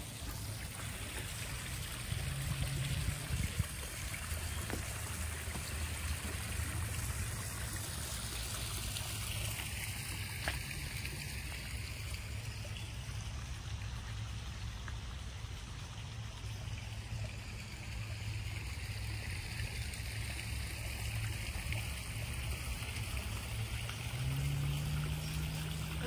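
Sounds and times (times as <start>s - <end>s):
water trickling and splashing: 0.0s - 26.0s.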